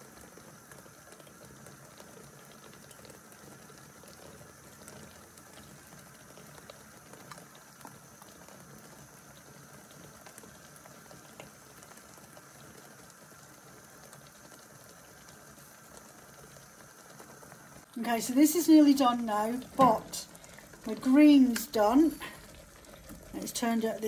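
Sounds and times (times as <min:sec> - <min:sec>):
liquid simmering and bubbling: 0:00.0 - 0:24.0.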